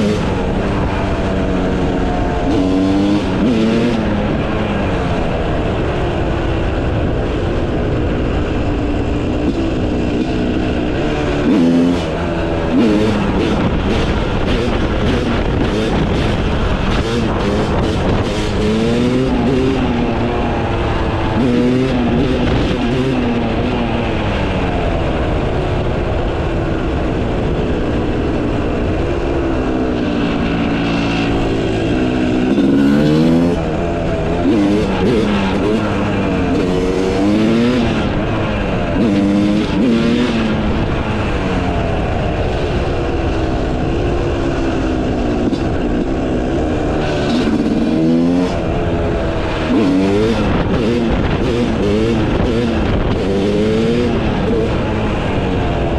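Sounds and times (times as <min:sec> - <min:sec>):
two-stroke motorcycle engine revving: 0:00.0 - 0:55.9.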